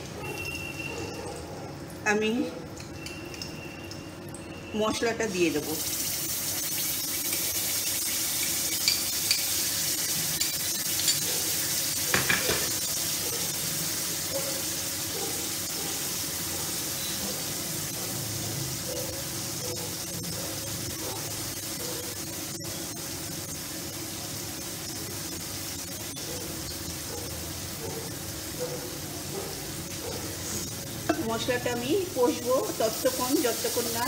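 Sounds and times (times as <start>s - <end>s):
paste sizzling in hot oil: 2.8s - 34.0s.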